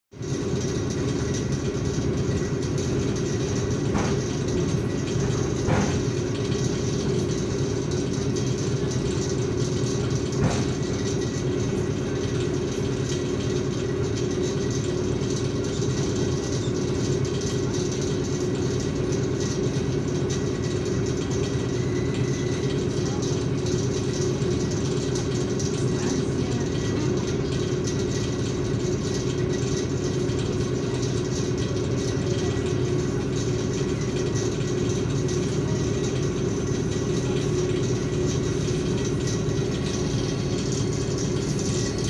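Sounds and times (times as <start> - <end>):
train car interior rumble: 0.1 - 42.0.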